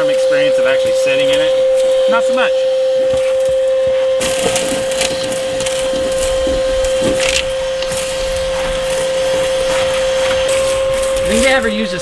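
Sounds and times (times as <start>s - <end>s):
crackling of dry debris: 0.0s - 12.0s
shop vacuum whine: 0.0s - 12.0s.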